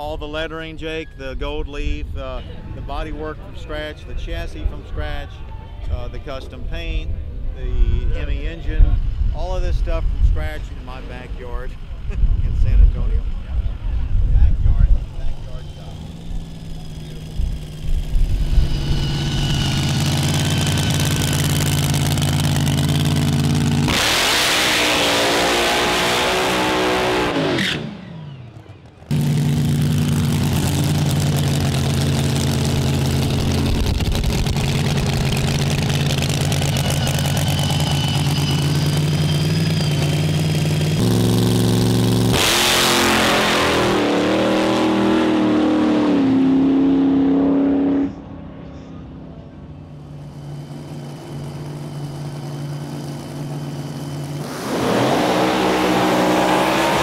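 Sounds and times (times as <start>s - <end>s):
dragster engine roaring: 7.8s - 57.0s.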